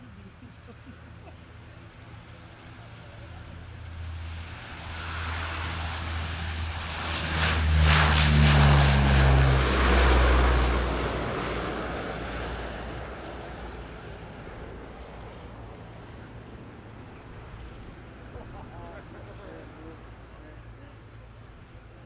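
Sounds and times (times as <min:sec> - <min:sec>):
turboprop aircraft taking off: 0:00.0 - 0:22.0.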